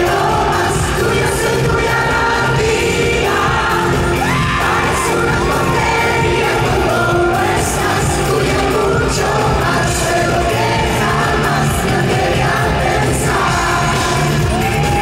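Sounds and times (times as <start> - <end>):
pop band playing: 0.0 - 15.0
woman singing into microphone: 0.0 - 15.0.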